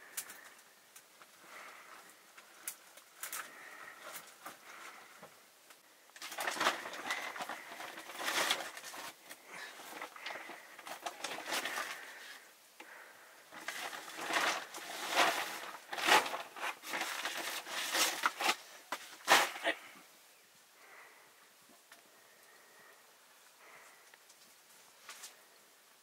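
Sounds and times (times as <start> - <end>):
rustling and crunching: 0.0 - 20.0, 23.6 - 25.6.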